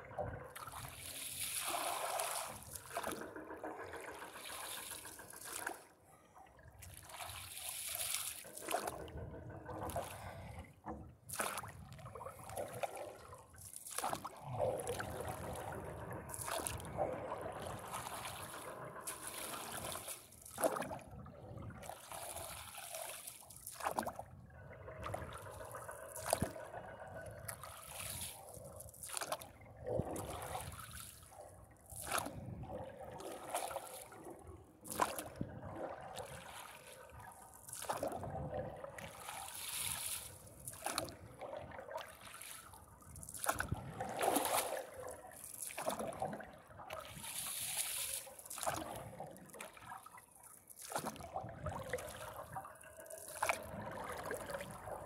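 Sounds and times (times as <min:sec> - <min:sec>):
paddle splashing in water: 0:00.6 - 0:06.2, 0:06.8 - 0:10.6, 0:11.2 - 0:21.1, 0:21.8 - 0:24.2, 0:25.0 - 0:26.7, 0:27.5 - 0:31.3, 0:31.9 - 0:55.0.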